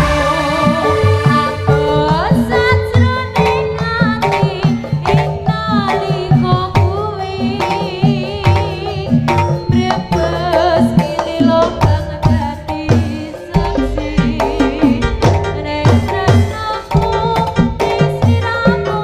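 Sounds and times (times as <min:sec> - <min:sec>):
wavering melody: 0:00.0 - 0:18.0
hand drums beating: 0:00.0 - 0:19.0.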